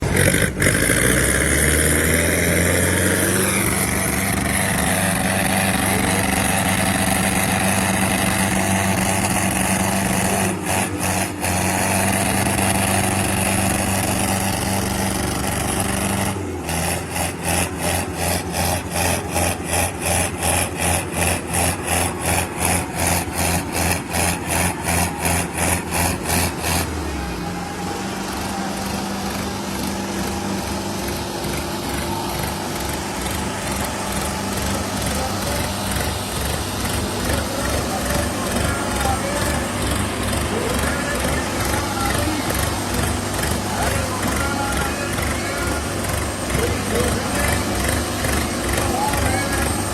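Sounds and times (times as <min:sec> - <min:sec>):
tractor diesel engines under load: 0:00.0 - 0:49.9.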